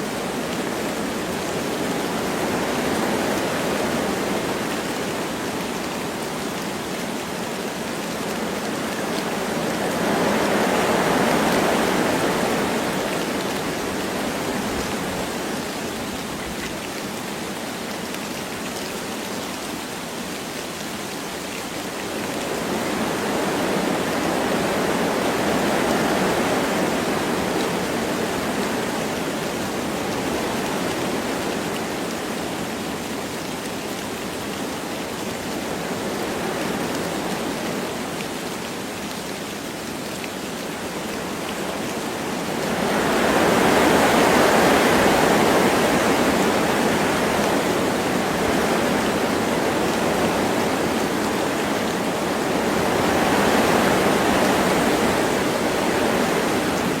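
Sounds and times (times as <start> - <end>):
light rain: 0.0 - 57.0
wind gusting through trees: 0.0 - 57.0.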